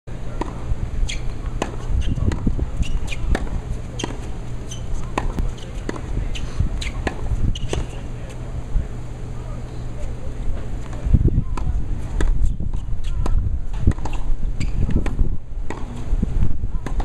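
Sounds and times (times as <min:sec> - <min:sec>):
low steady rumble: 0:00.1 - 0:17.0.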